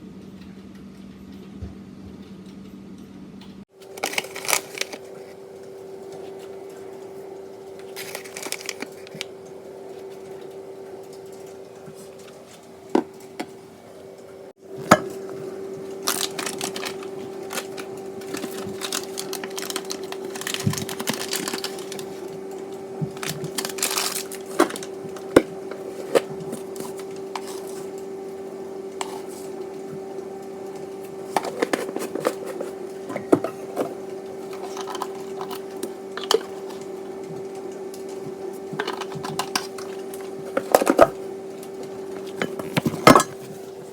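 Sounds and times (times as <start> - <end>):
steady electric hum: 0.0 - 43.9.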